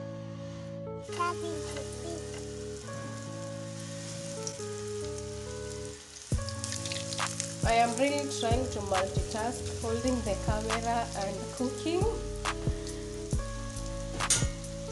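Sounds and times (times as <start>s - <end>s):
sausage rolls sizzling in hot oil: 1.0s - 14.9s.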